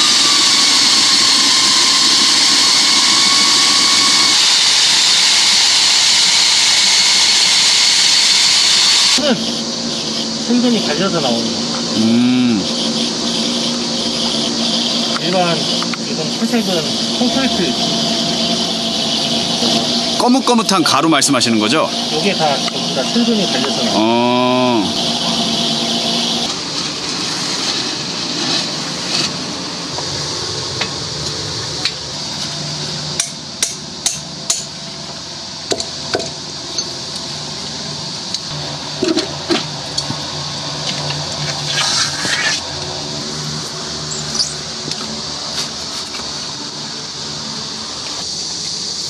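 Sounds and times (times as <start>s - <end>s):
core drill boring concrete: 0.0s - 49.0s.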